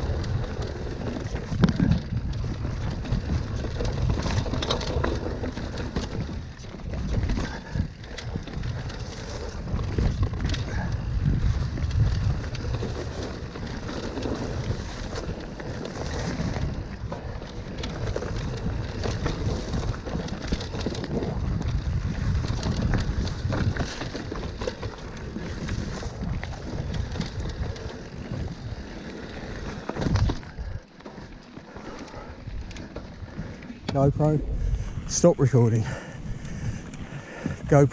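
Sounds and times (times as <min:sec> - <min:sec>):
bike rattling and clicking: 0:00.0 - 0:37.9
tyres rolling over dirt: 0:00.0 - 0:37.9
wind rumbling on microphone: 0:00.0 - 0:37.9.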